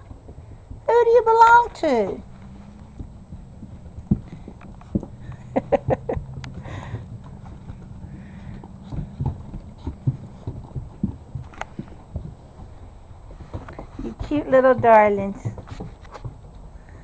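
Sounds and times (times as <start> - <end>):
puppy claws tapping on wooden deck: 0.0 - 17.0.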